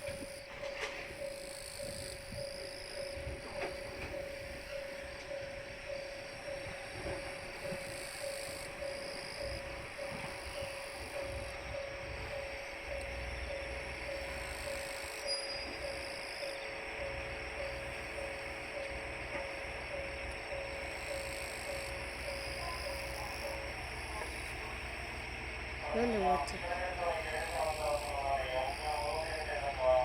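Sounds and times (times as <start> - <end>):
level-crossing alarm ringing: 0.0 - 30.0.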